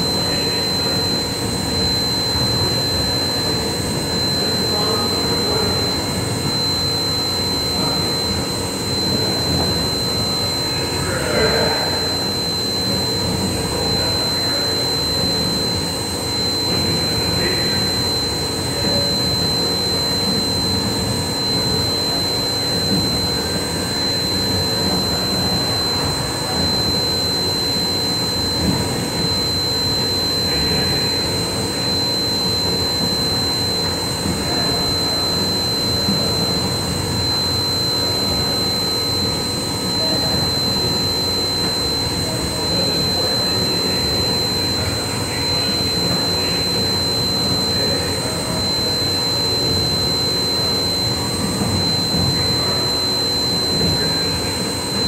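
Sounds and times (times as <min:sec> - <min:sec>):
machine whine and rumble: 0:00.0 - 0:55.0.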